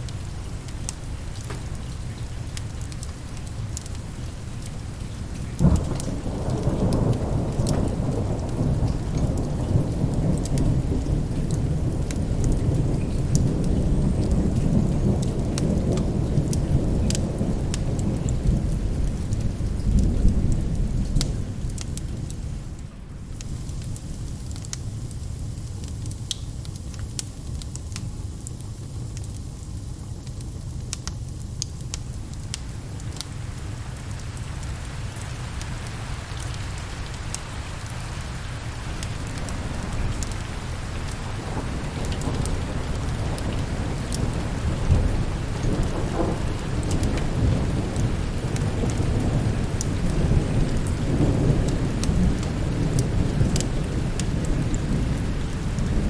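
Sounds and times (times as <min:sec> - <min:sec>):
rolling thunder: 0:00.0 - 0:23.8, 0:34.7 - 0:56.0
steady rain: 0:00.0 - 0:56.0
wood fire crackling: 0:00.0 - 0:56.0.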